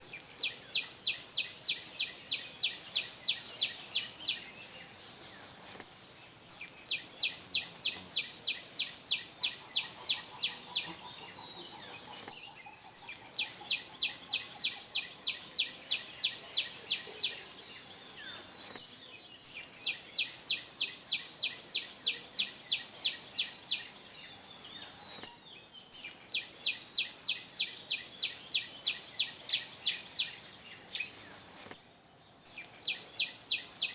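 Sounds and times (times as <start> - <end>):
bird chirping song: 0.0 - 33.9
thin high insect whine: 0.1 - 33.9.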